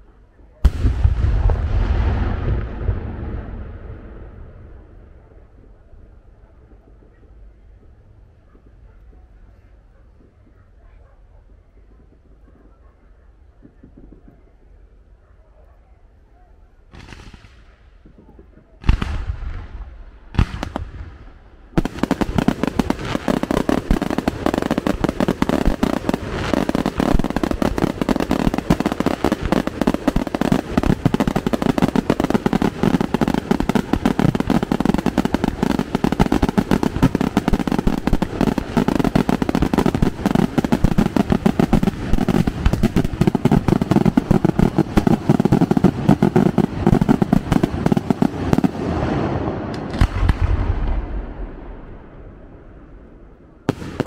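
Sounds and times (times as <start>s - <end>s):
fireworks bangs and crackling: 0.0s - 9.5s, 16.9s - 52.7s, 53.6s - 54.0s.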